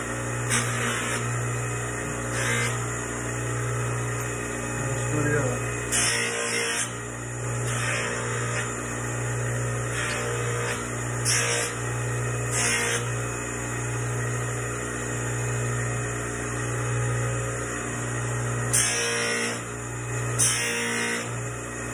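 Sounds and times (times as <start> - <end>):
buffing machine motor hum: 0.0 - 21.9.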